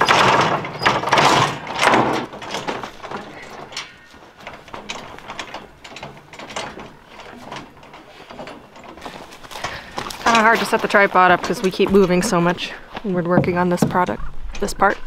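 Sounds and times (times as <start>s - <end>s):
metal scaffold clanking and rattling: 0.0s - 15.0s.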